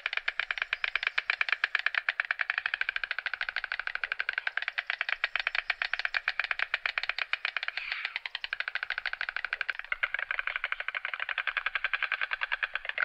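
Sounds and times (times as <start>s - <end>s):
stork bill clattering: 0.0s - 13.0s.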